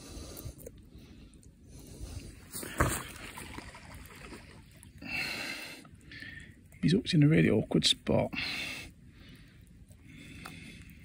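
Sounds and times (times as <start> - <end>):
wet net and fish rustling: 0.0 - 11.0.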